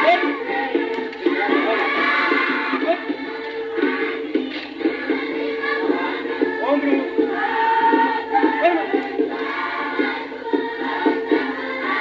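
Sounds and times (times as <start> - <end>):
group singing and chanting: 0.0 - 12.0
repeating rhythmic beat: 0.0 - 12.0.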